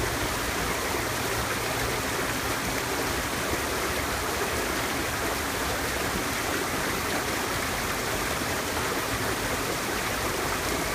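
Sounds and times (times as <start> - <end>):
stream rushing over rocks: 0.0 - 10.9.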